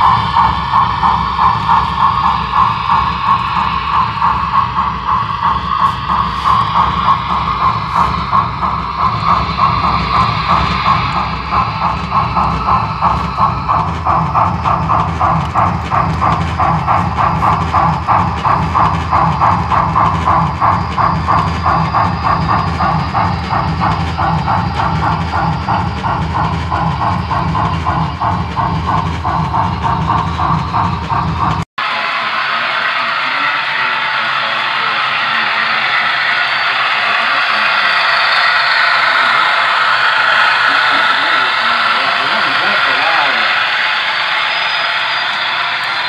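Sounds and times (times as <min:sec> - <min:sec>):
model steam train chuffing: 0:00.0 - 0:46.0.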